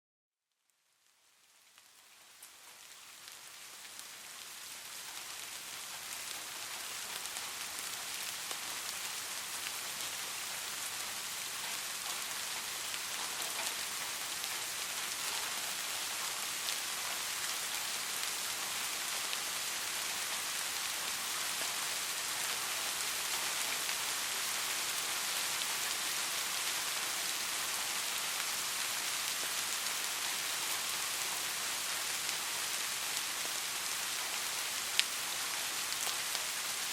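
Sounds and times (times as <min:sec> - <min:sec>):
soft rain falling: 0:00.4 - 0:36.9.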